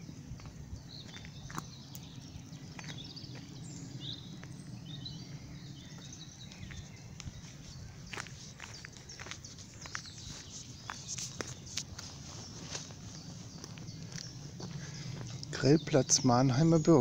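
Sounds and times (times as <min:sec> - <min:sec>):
birds chirping: 0:00.0 - 0:17.0
footsteps on gravel: 0:00.4 - 0:16.6.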